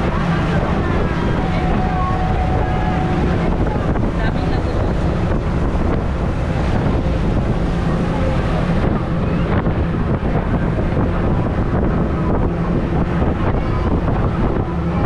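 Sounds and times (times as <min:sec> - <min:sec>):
motorboat engine drone: 0:00.0 - 0:15.0
water rushing past hull: 0:00.0 - 0:15.0
wind buffeting microphone: 0:00.0 - 0:15.0.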